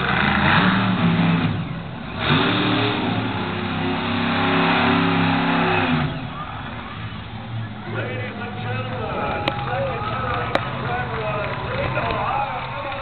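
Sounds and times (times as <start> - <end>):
truck engine revving hard: 0.0 - 10.8.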